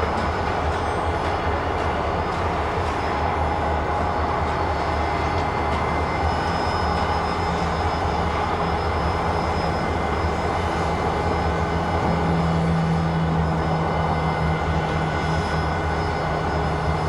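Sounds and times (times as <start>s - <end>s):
steam locomotive mechanical roar: 0.0s - 17.0s.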